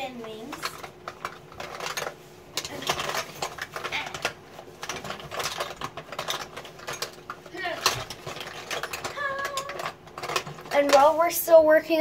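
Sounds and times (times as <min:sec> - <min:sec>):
small objects clicking and clattering: 0:00.2 - 0:11.4.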